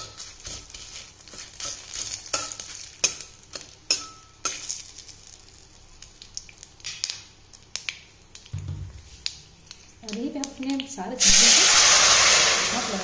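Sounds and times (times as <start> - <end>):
spices sizzling and popping in oil: 0.0 - 13.0.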